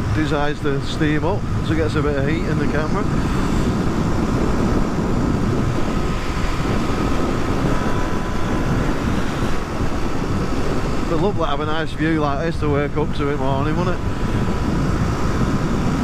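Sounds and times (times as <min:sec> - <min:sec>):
motorcycle engine cruising: 0:00.0 - 0:16.0
wind rush on microphone: 0:00.0 - 0:16.0.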